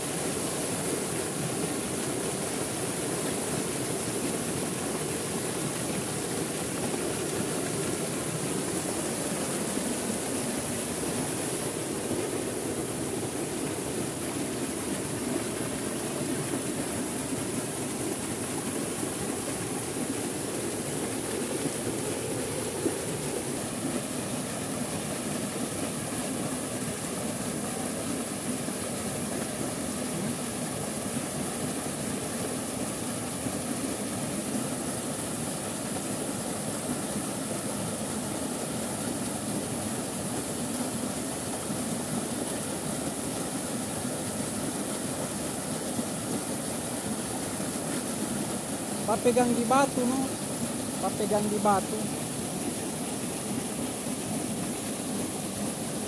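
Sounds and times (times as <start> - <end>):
small waterfall into a pool: 0.0 - 56.0.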